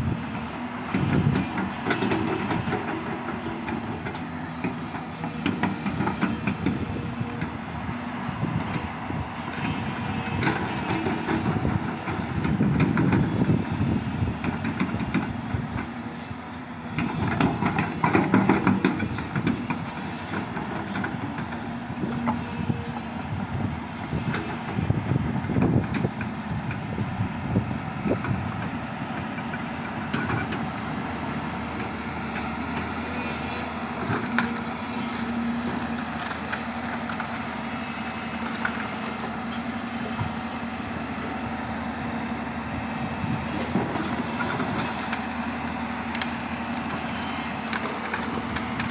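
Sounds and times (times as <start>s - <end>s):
excavator diesel engines: 0.0s - 48.9s.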